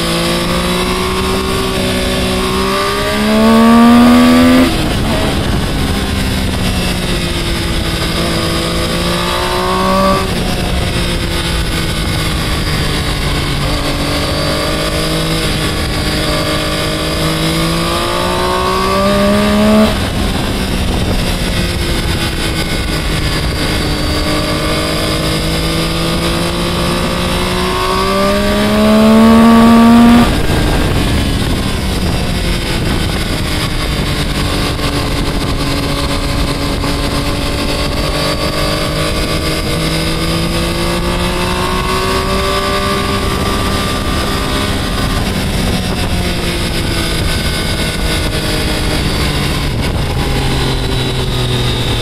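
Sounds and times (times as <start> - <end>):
motorcycle engine accelerating: 0.0 - 52.0
wind rush: 0.0 - 52.0.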